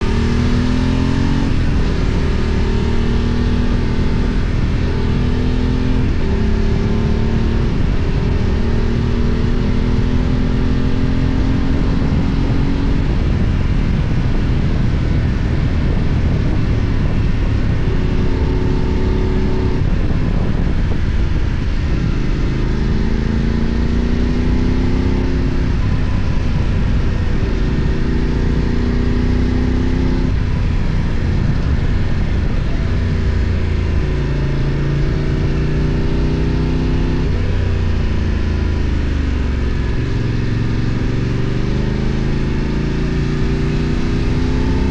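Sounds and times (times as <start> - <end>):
motorcycle engine shifting gears: 0.0 - 44.9.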